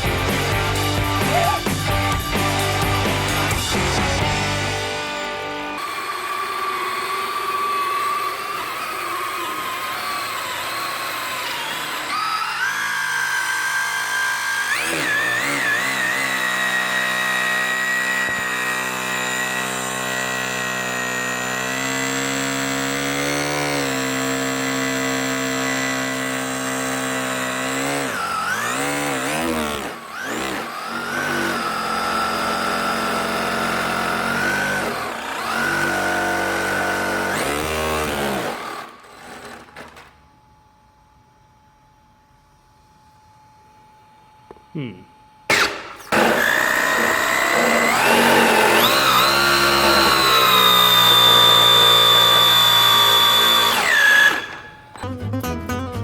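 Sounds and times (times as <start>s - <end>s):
rc car motor whining: 0.0s - 40.6s, 45.5s - 55.0s.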